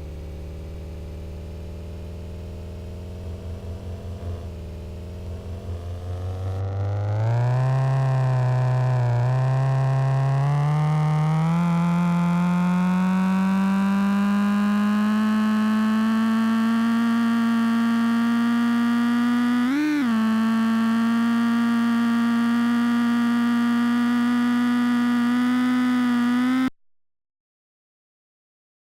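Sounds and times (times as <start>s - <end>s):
car engine at high revs: 0.0s - 26.7s.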